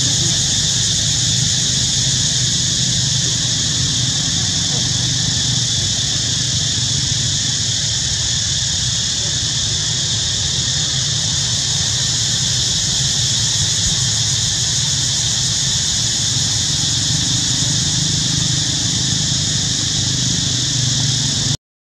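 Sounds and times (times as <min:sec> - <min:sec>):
high hiss: 0:00.0 - 0:21.6.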